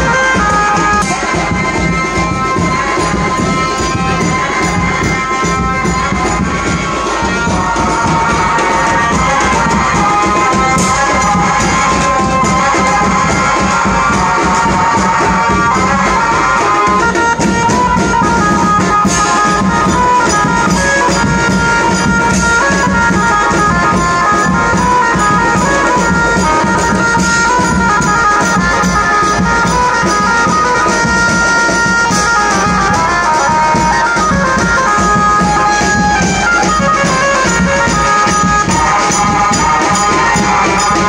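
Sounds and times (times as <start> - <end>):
drumming and cymbals: 0.0 - 41.0
reedy melody: 0.0 - 41.0.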